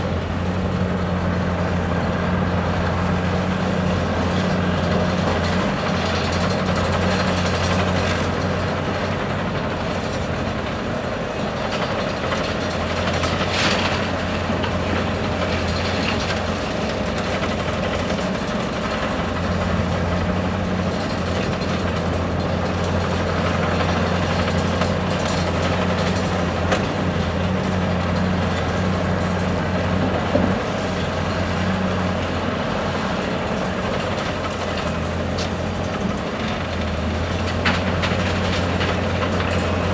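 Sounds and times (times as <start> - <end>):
diesel excavator engine humming: 0.0 - 39.9.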